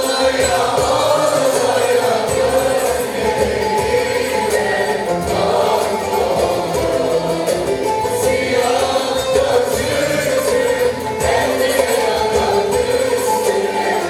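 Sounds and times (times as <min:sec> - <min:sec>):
folk instrumental accompaniment: 0:00.0 - 0:14.0
voices singing together: 0:00.0 - 0:14.0.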